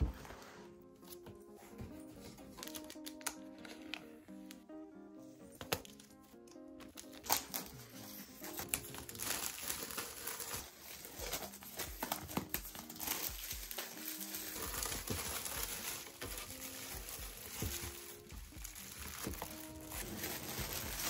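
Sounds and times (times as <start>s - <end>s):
background music: 0.0s - 21.0s
plastic wrap crinkling and tearing: 2.4s - 4.0s, 5.5s - 21.0s.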